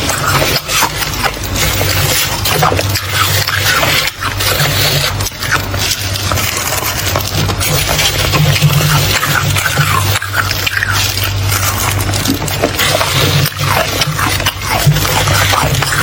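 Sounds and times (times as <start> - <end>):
freezer frost crunching: 0.0 - 16.0.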